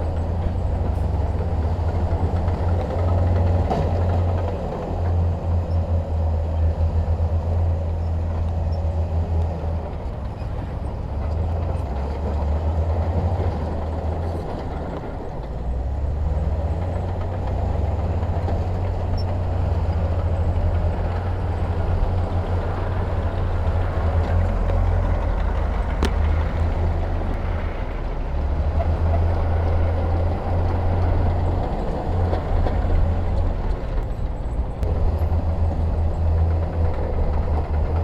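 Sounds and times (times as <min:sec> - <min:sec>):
diesel machinery engine rumble: 0:00.0 - 0:38.0.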